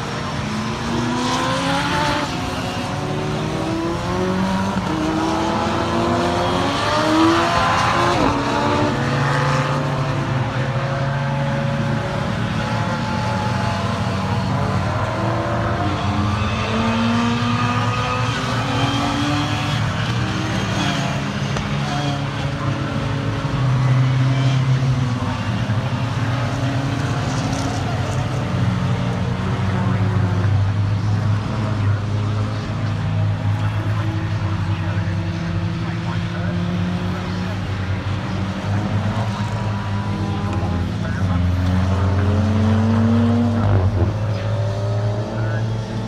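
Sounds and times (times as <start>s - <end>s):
race car engines passing: 0.0s - 46.0s.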